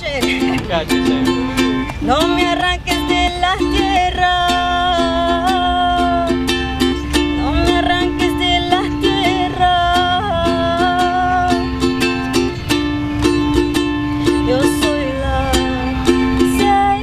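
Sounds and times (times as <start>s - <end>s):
person singing: 0.0s - 12.6s, 13.6s - 17.0s
ukulele strumming: 0.0s - 17.0s.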